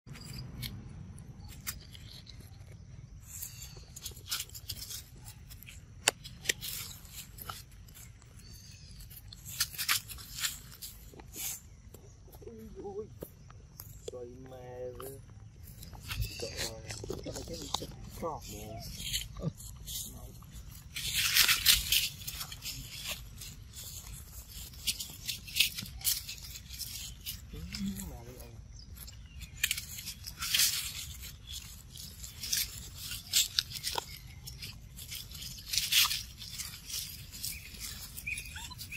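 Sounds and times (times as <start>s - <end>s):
dry leaves crackling and rustling: 0.1s - 38.9s.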